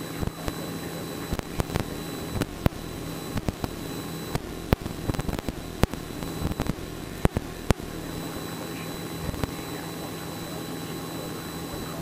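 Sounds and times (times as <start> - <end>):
airplane engine and propeller drone: 0.0 - 12.0
low hum: 0.0 - 12.0.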